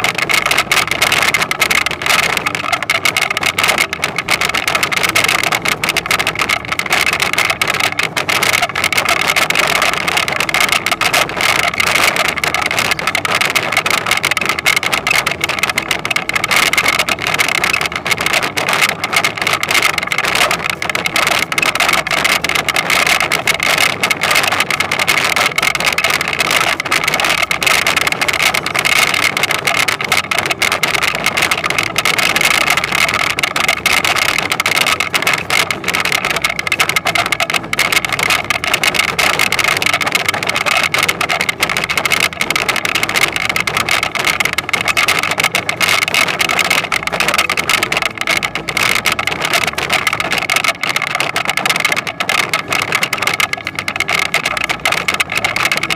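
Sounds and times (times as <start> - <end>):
dense machine rattle: 0.0 - 55.9.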